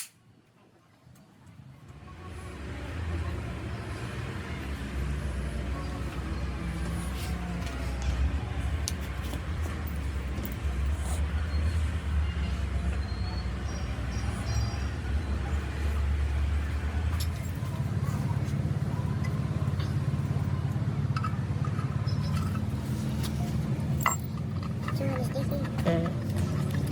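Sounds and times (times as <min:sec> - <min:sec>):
motor engine running: 0:02.0 - 0:26.9.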